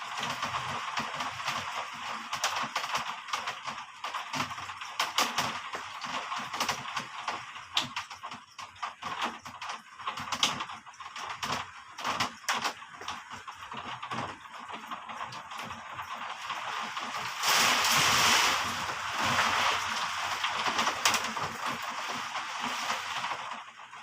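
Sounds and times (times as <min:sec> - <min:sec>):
rain falling: 0:00.0 - 0:24.0
raindrops tapping hard surface: 0:00.0 - 0:24.0.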